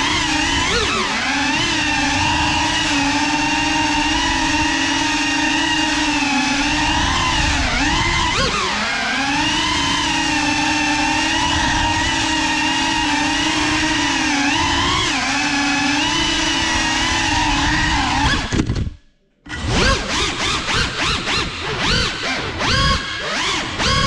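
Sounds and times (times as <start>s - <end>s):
drone motors whining: 0.0s - 18.8s, 19.5s - 24.0s.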